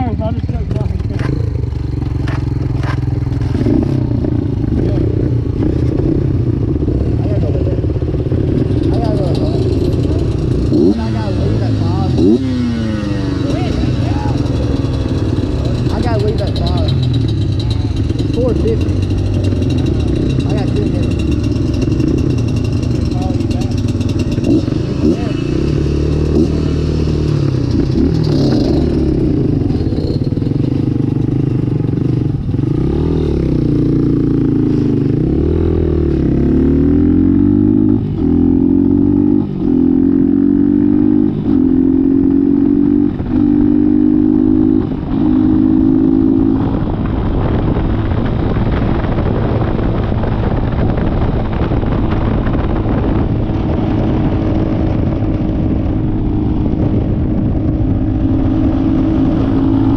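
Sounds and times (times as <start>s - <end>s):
dirt bike engine revving: 0.0s - 49.4s.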